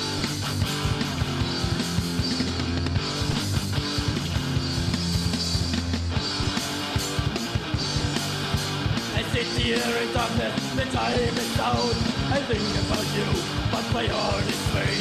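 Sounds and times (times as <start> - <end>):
punk band playing: 0.0 - 15.0.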